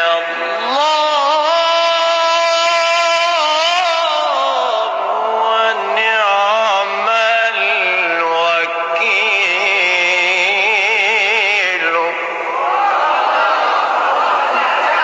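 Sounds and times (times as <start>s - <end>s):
man singing devotional chant: 0.0s - 12.5s.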